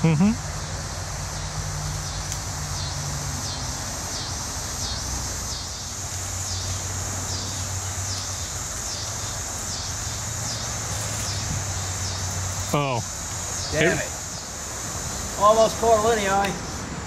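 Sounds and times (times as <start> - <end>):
cicada pulsing buzz: 0.0 - 17.0.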